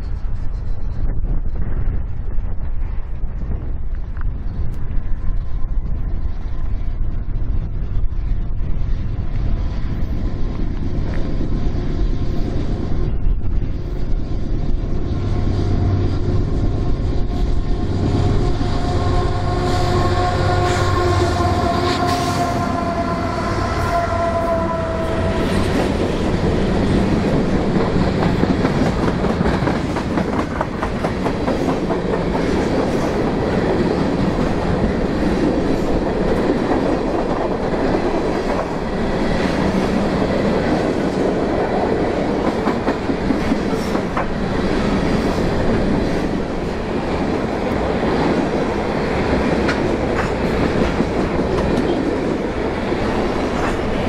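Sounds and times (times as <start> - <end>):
train cars rumbling and rattling past: 0.0 - 54.0.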